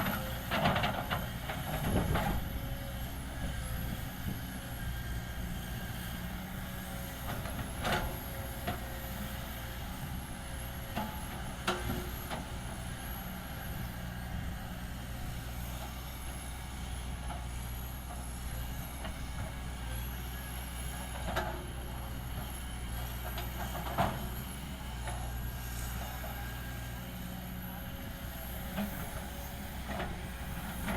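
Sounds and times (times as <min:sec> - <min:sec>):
heavy diesel machinery running: 0:00.0 - 0:30.9.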